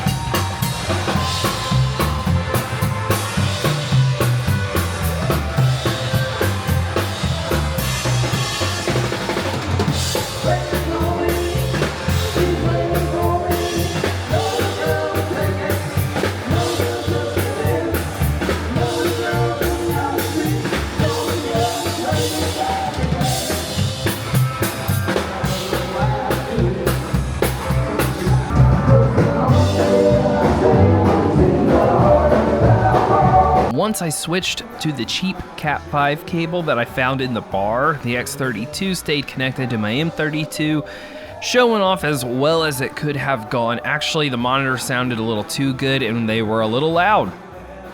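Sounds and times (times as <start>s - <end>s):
drum kit beat: 0.0s - 47.9s.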